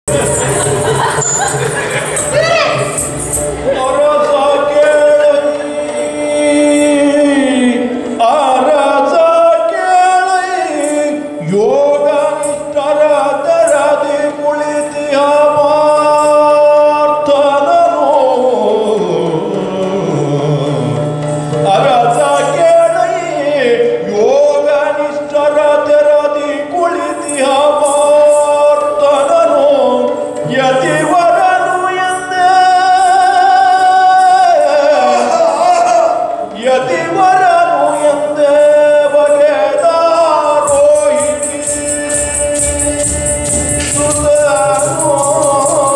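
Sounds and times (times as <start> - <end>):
man singing long melody: 0.0 - 45.9
musical accompaniment: 0.0 - 45.9.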